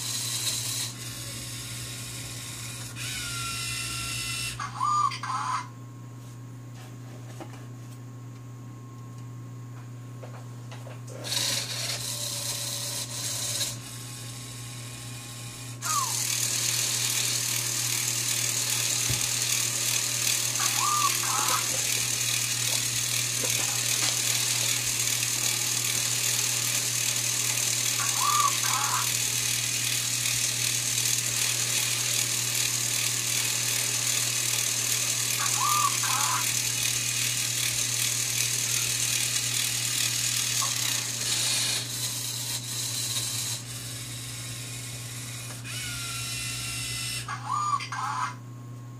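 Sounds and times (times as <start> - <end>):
toy motors and gears whirring: 0.0 - 5.6, 11.1 - 48.3.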